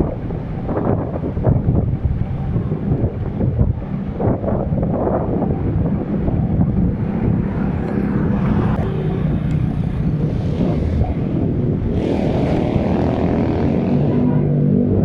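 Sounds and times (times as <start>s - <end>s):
motor vehicle engines running: 0.0s - 15.0s
wind buffeting microphone: 0.0s - 15.0s.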